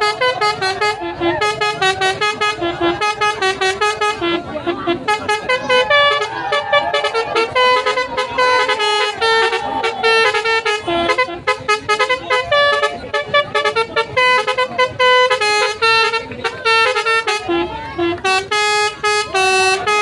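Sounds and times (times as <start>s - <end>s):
bus musical horn melody: 0.0s - 20.0s.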